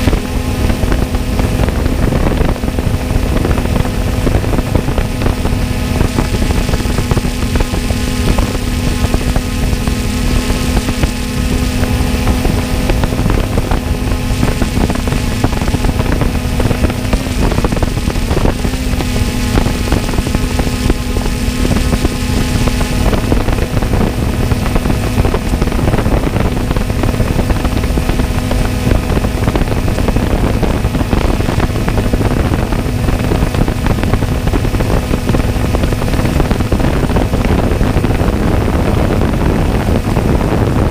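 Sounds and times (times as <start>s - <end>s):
jet ski engine running: 0.0s - 40.9s
rushing water noise: 0.0s - 40.9s.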